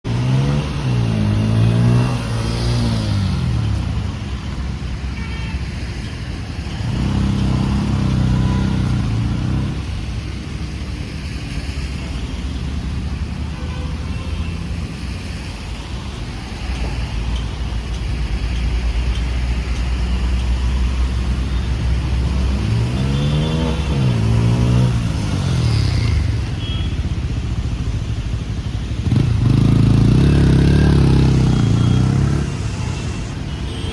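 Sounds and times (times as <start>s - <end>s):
low road rumble: 0.0s - 33.9s.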